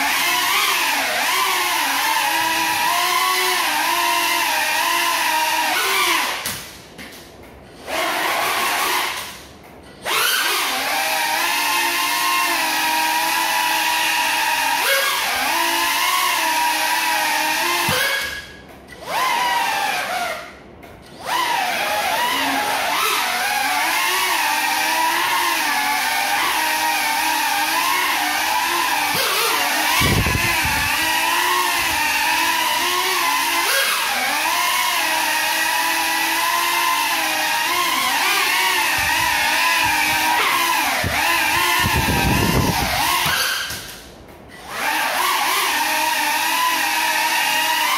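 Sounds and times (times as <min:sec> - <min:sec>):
quadcopter motors buzzing: 0:00.0 - 0:06.7, 0:07.8 - 0:09.3, 0:10.0 - 0:20.5, 0:21.1 - 0:47.9.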